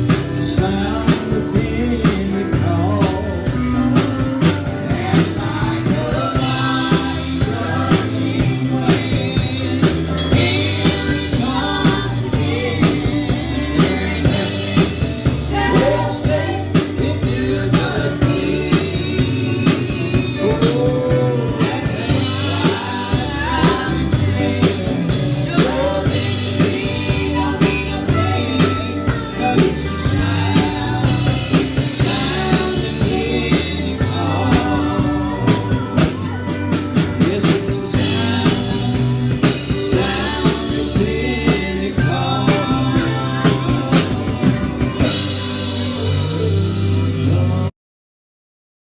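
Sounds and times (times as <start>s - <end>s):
live band playing gospel song: 0.0s - 47.7s
person singing: 0.0s - 47.7s.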